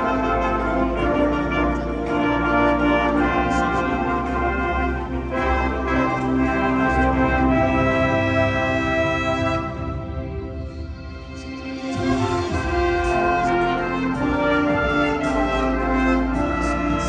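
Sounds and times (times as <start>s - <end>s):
orchestral music with brass: 0.0s - 17.0s.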